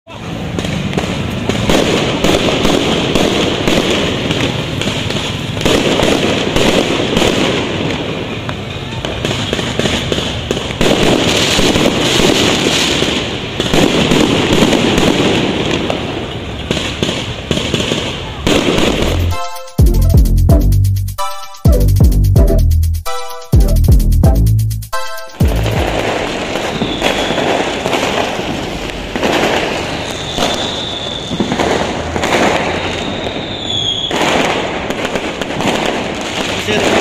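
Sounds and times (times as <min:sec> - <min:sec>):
fireworks popping and banging: 0:00.1 - 0:19.8, 0:24.9 - 0:37.0.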